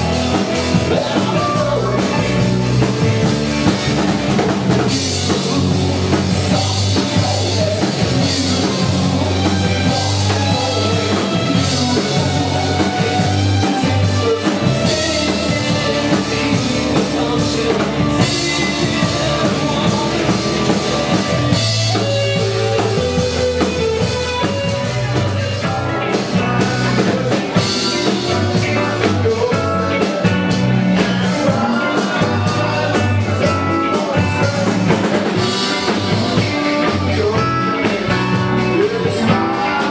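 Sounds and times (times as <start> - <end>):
bass line: 0.0 - 39.9
drum kit: 0.0 - 39.9
rock band playing: 0.0 - 39.9.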